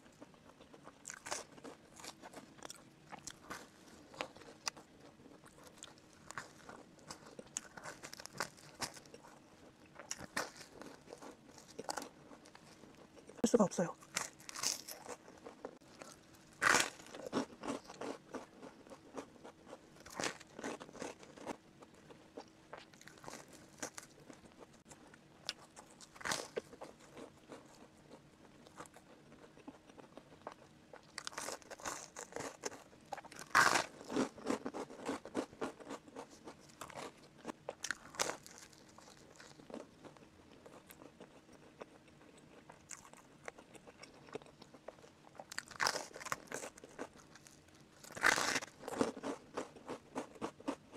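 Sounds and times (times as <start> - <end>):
chewing crunchy toast: 0.0 - 13.4, 14.0 - 50.9.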